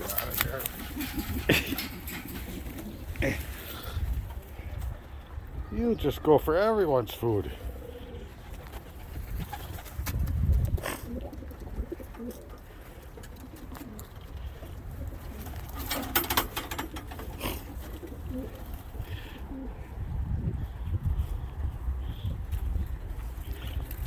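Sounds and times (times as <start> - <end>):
pigeons cooing: 0.0 - 6.0, 7.4 - 22.4.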